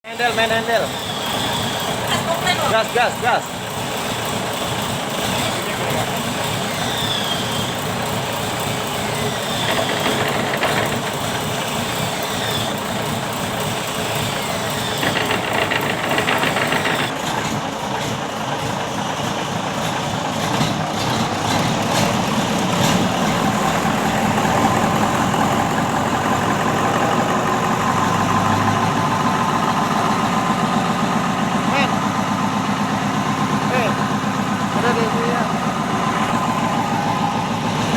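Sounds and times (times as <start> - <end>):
diesel engine revving and running: 0.1 - 37.9.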